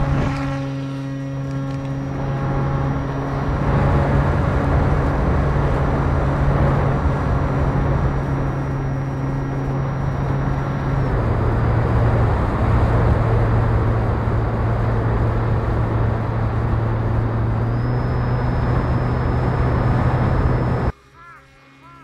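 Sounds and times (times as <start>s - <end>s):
wind rushing over camera: 0.0s - 0.7s, 1.8s - 20.9s
electric motor and propeller hum: 0.0s - 22.0s.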